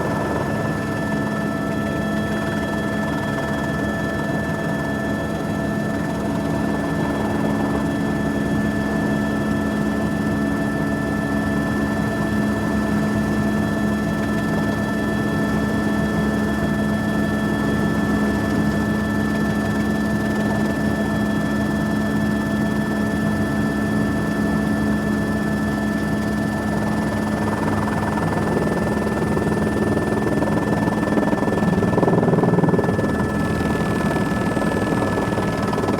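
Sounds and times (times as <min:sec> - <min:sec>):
helicopter engine and rotor drone: 0:00.0 - 0:35.9.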